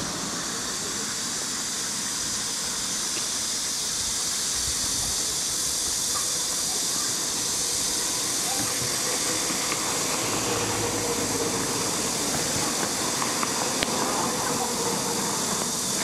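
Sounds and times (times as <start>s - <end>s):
high hiss of outdoor ambience: 0.0s - 16.0s.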